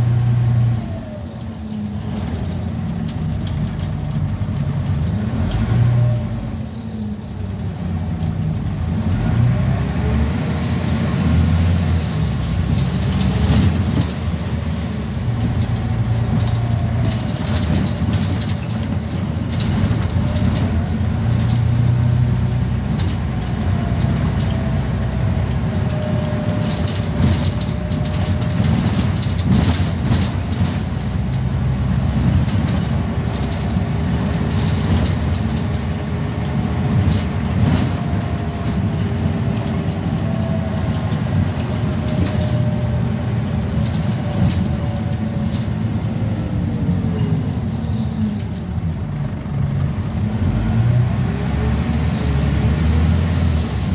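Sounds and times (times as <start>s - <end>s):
bus engine drone: 0.0s - 53.9s
clicks and rattles: 1.3s - 9.3s, 12.2s - 50.2s.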